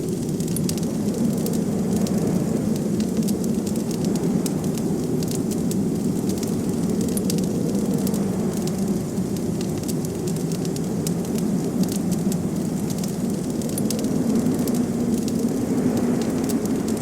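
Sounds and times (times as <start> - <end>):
blizzard wind rumbling: 0.0 - 17.0
wood fire crackling: 0.0 - 17.0.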